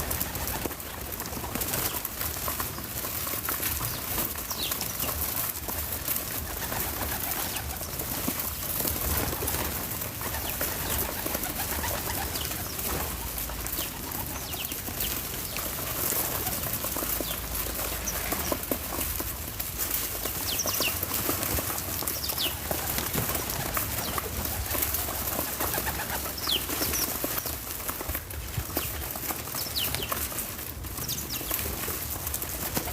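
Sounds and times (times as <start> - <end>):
birds chirping: 0.0 - 32.9
steady outdoor hiss: 0.0 - 32.9.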